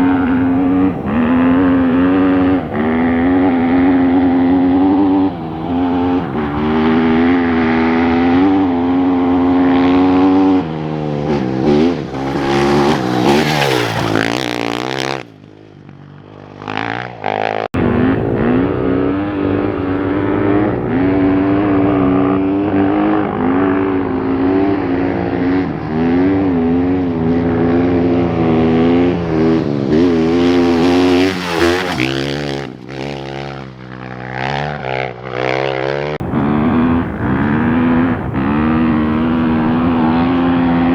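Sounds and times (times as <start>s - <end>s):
motorcycle engines revving and passing: 0.0s - 40.9s.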